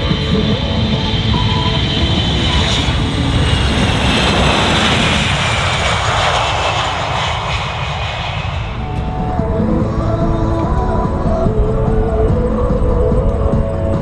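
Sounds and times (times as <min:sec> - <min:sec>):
jet engines roaring on takeoff: 0:00.0 - 0:14.0.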